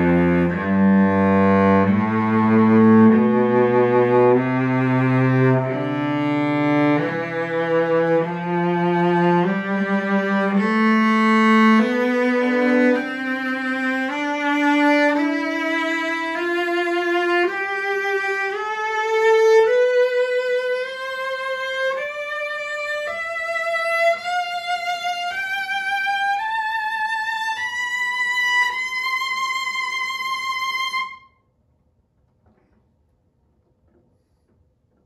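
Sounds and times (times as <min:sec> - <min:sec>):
cello bowed in ascending scale: 0:00.0 - 0:31.2.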